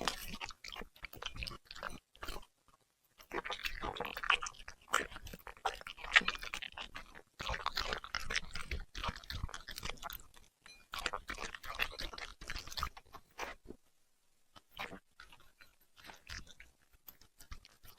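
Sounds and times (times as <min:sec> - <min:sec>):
puppy chewing and crunching food: 0:00.0 - 0:13.9, 0:14.5 - 0:17.9.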